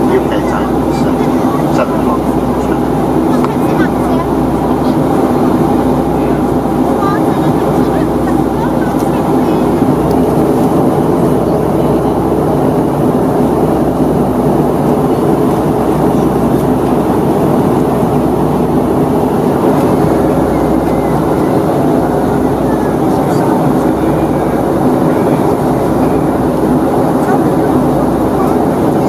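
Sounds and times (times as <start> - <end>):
jet engines droning: 0.0 - 29.0
rush of airflow in cabin: 0.0 - 29.0.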